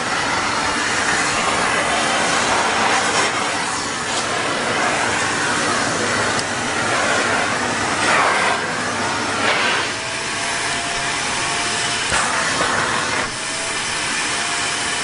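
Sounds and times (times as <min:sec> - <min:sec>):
vacuum cleaner air rush: 0:00.0 - 0:15.0
vacuum motor whine: 0:00.0 - 0:15.0.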